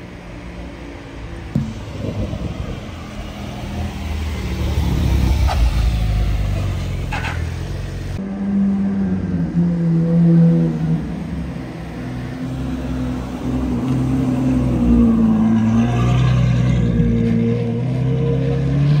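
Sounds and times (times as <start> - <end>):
sports car engine rumbling: 1.4 - 18.7.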